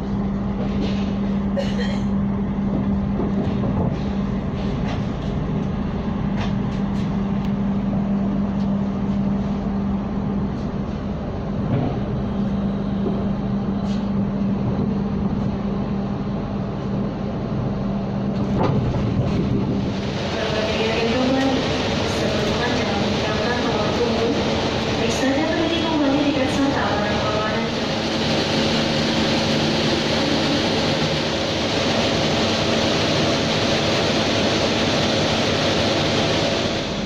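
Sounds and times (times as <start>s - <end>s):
low hum: 0.0s - 37.0s
train wheels rumbling on rails: 0.0s - 37.0s.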